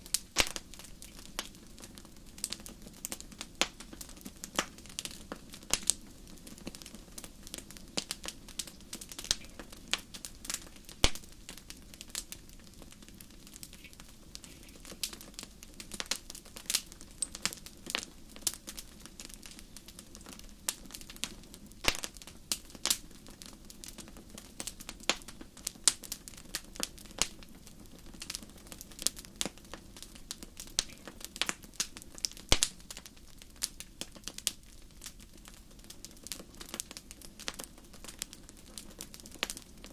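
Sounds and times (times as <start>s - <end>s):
low steady fire rumble: 0.0s - 39.9s
wood fire crackling and popping: 0.0s - 39.9s.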